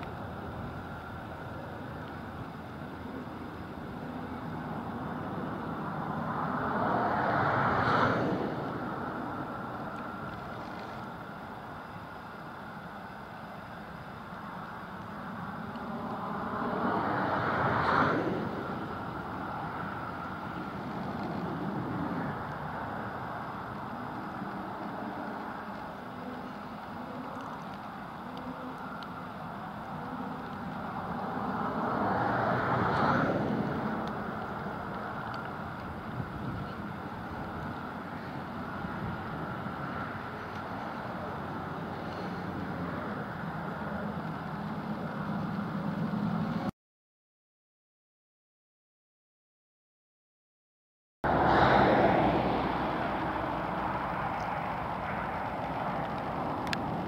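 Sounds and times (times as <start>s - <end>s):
diesel locomotive engines running: 0.0s - 46.7s, 51.3s - 57.0s.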